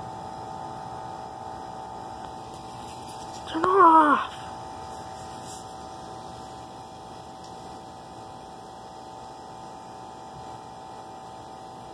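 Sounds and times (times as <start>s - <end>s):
steady hum: 0.0s - 11.9s.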